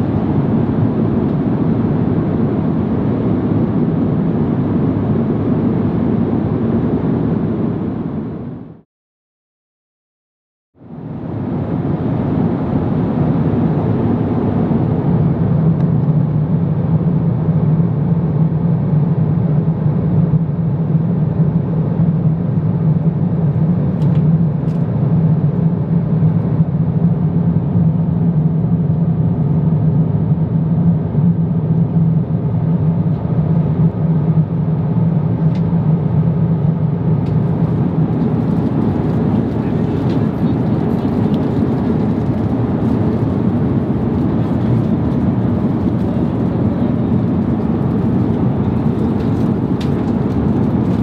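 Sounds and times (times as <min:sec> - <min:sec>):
airplane cabin engine rumble: 0:00.0 - 0:08.8, 0:10.8 - 0:51.0.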